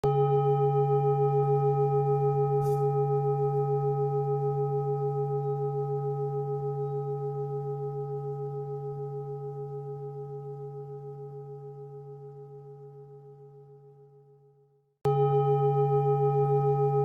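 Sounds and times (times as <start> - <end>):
singing bowl ringing: 0.0 - 14.1, 15.1 - 17.0.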